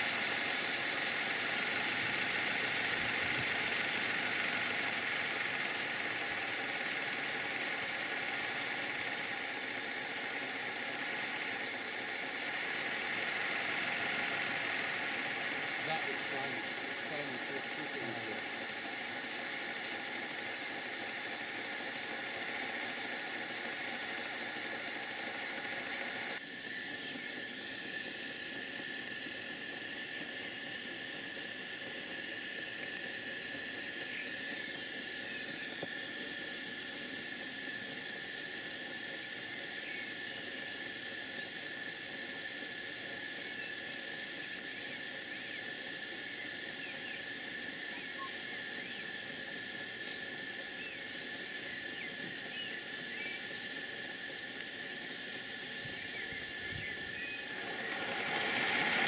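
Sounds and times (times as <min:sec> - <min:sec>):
steam hissing with whistling tone: 0:00.0 - 0:59.0.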